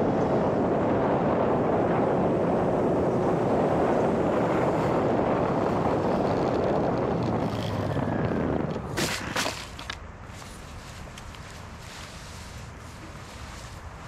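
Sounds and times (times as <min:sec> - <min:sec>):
wind rushing on microphone: 0:00.0 - 0:14.0.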